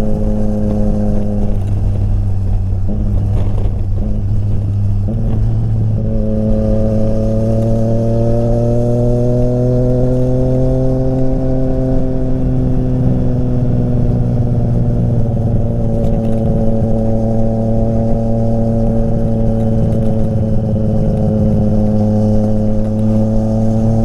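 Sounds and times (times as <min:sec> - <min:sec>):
motorcycle engine under load: 0:00.0 - 0:24.0.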